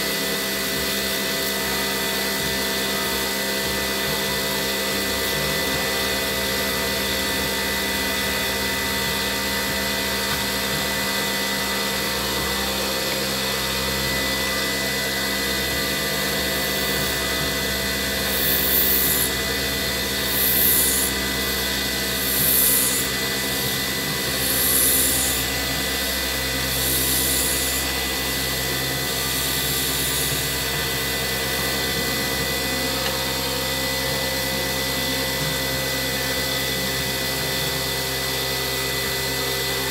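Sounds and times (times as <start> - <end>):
wood lathe motor whining: 0.0 - 39.9
turning tool hissing cuts: 0.4 - 34.4.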